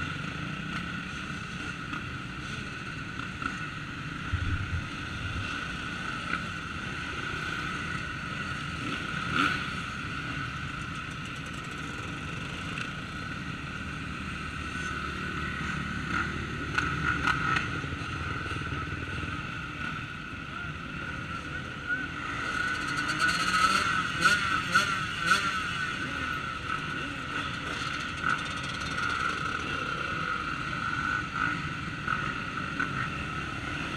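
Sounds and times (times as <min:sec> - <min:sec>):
dirt bike engines at low revs: 0:00.0 - 0:33.9.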